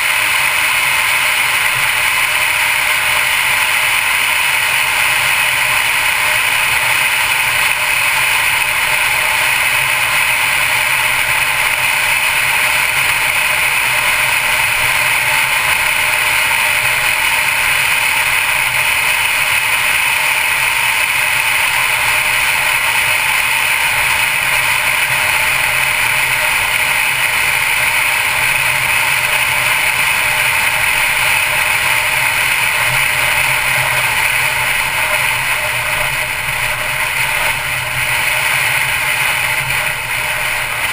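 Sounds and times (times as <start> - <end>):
wind and tyre noise: 0.0 - 40.9.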